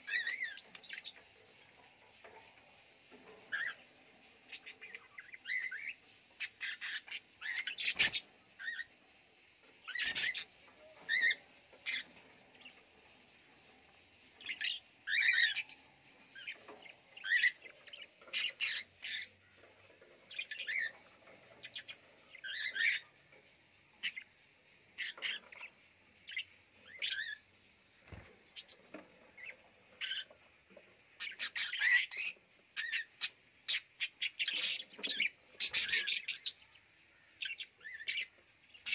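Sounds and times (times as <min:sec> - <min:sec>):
budgerigars chirping and squawking: 0:00.0 - 0:01.3, 0:03.2 - 0:09.0, 0:09.7 - 0:12.9, 0:14.4 - 0:23.4, 0:24.0 - 0:27.5, 0:28.1 - 0:38.9.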